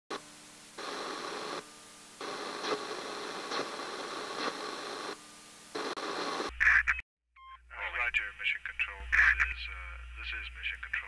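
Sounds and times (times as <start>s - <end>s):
radio static hissing: 0.1s - 7.0s, 7.7s - 11.0s.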